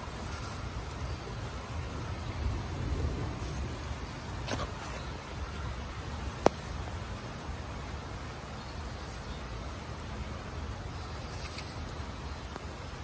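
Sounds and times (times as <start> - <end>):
light rain hiss: 0.0 - 13.0.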